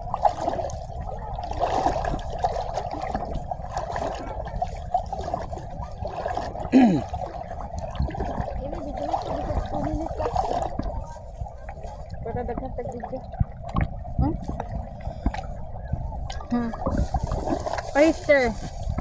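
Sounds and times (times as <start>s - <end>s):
low rumbling noise: 0.0s - 19.0s
water trickling and sloshing: 0.0s - 19.0s.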